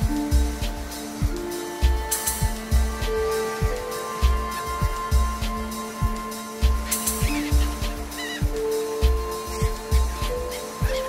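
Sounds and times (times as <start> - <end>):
held notes: 0.0 - 11.0
music with bass beat: 0.0 - 11.0.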